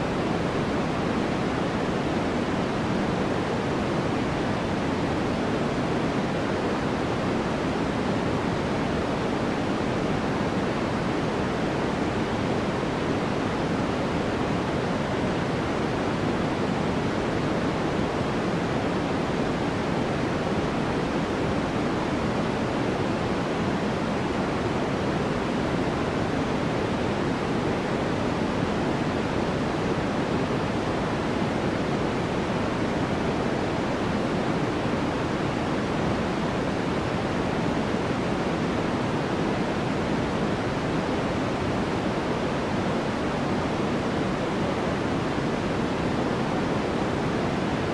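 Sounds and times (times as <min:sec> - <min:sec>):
white noise hiss: 0:00.0 - 0:47.9.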